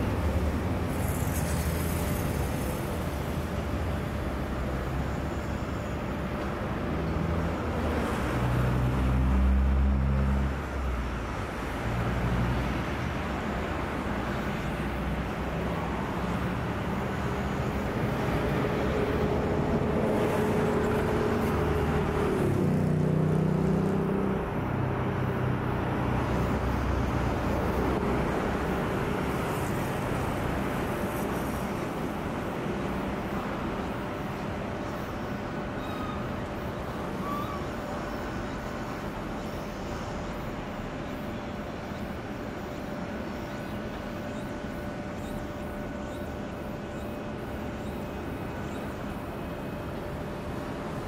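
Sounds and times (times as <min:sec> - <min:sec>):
traffic and vehicle engines: 0:00.0 - 0:51.0.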